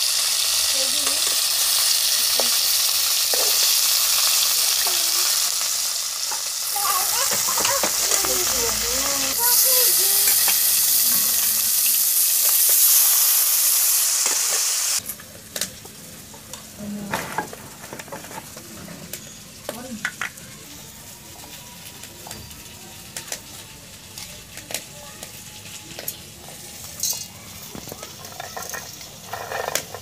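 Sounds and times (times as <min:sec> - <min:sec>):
fish sizzling in a pan: 0:00.0 - 0:18.6, 0:19.2 - 0:30.0.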